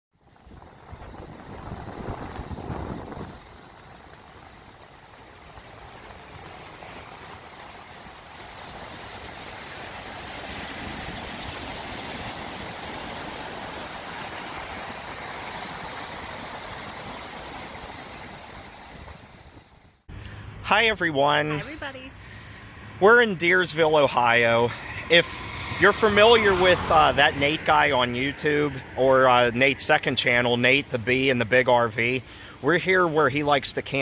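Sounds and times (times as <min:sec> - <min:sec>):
steady rushing noise: 0:00.2 - 0:34.0.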